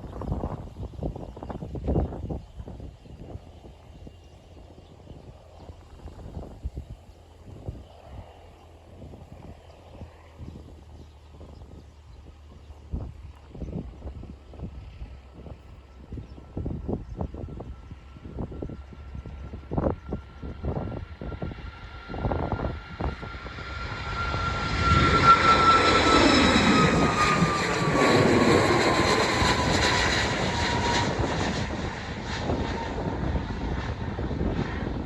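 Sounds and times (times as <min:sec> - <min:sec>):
wind buffeting microphone: 0:00.0 - 0:35.0
jet turbofans passing: 0:00.1 - 0:35.0.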